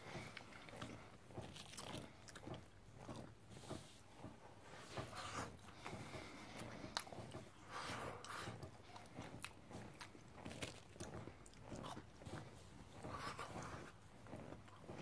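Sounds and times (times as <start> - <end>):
person chewing crunchy food: 0.0 - 4.4, 5.0 - 15.0.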